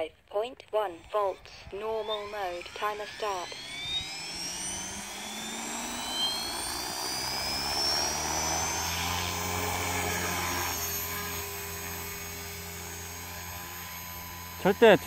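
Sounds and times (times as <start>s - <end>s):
rc helicopter rotor whine: 0.0s - 15.0s.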